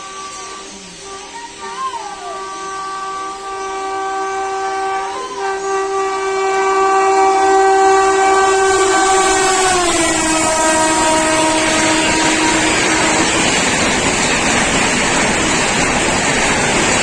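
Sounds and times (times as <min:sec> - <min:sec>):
locomotive air horn blast: 0:00.0 - 0:15.6
train passing through station: 0:00.0 - 0:17.0.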